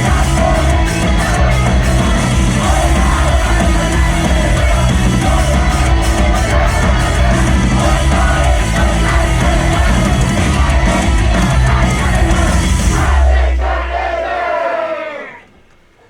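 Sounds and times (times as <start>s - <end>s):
rock music over sound system: 0.0s - 13.7s.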